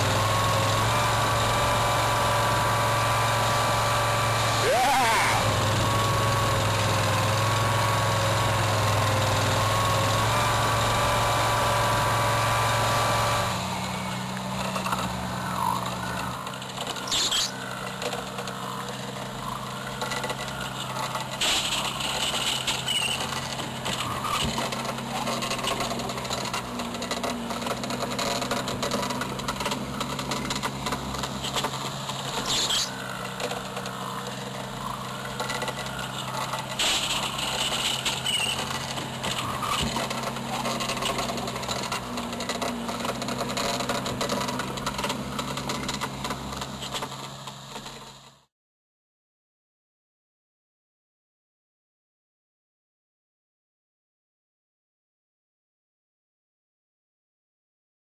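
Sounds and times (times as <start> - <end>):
engine running: 0.0 - 48.5.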